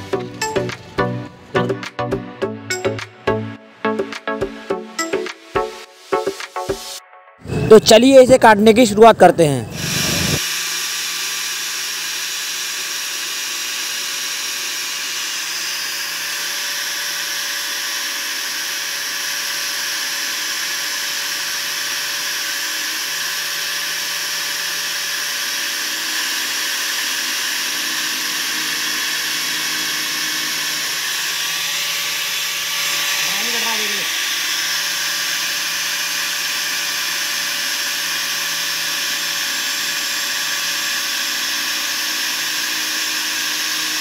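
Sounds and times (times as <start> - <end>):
angle grinder whining: 0.0 - 5.3, 7.4 - 44.0.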